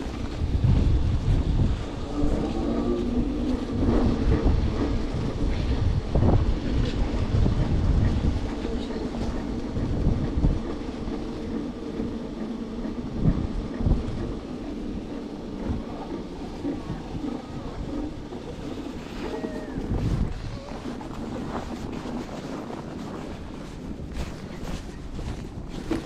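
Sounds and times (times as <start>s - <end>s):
skateboard wheels rumbling: 0.0s - 26.0s
wind buffeting microphone: 0.0s - 26.0s.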